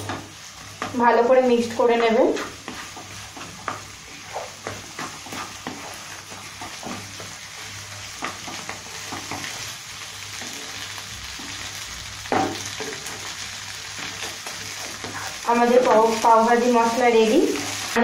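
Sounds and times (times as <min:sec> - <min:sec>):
vegetable mash sizzling in butter: 0:00.0 - 0:18.0
wooden spatula stirring and scraping: 0:00.0 - 0:18.0.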